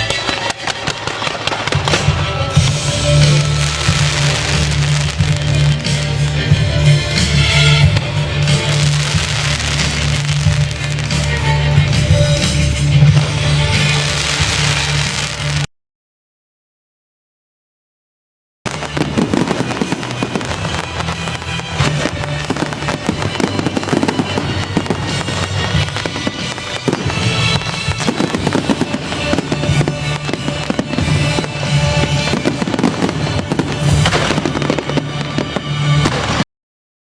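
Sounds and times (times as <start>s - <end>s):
loud show music: 0.0s - 15.6s, 18.7s - 36.4s
fireworks bangs and crackles: 0.0s - 15.7s, 18.7s - 36.4s.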